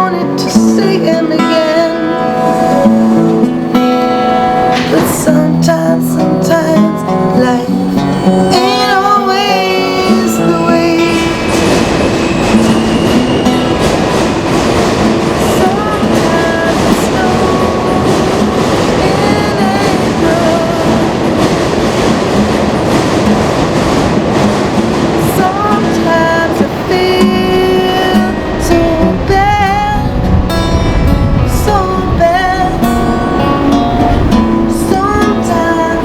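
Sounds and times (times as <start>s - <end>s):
acoustic guitar playing: 0.0s - 36.0s
subway train wheels rumbling: 0.0s - 36.0s.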